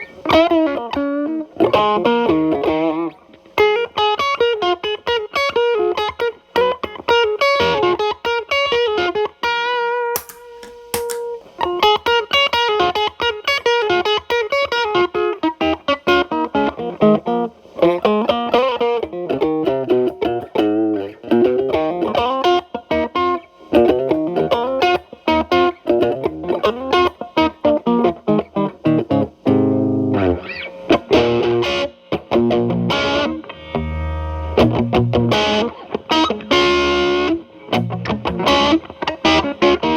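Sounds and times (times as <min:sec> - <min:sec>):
electric guitar with light distortion: 0:00.0 - 0:39.9.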